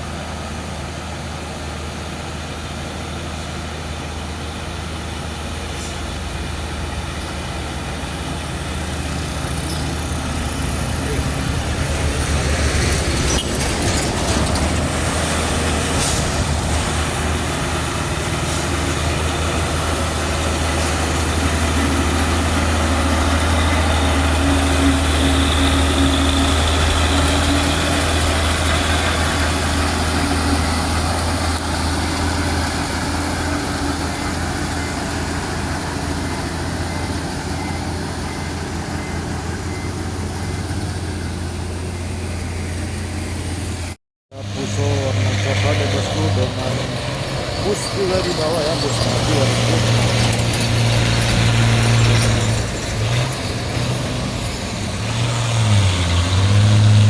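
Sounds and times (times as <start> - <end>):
diesel engine working hard: 0.0 - 57.0.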